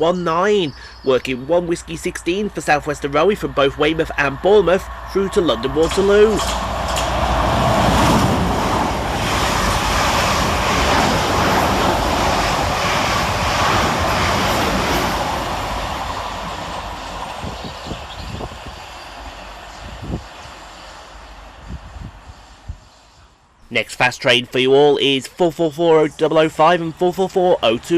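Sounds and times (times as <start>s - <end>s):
train rushing past: 1.2s - 23.6s.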